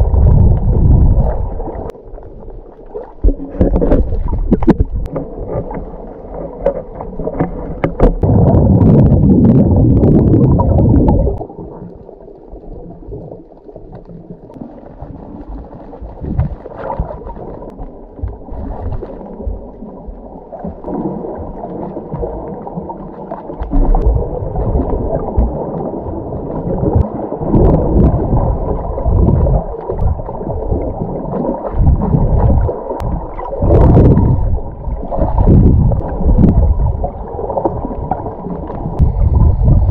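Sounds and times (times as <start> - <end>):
muffled underwater sloshing and gurgling: 0.0 - 39.9.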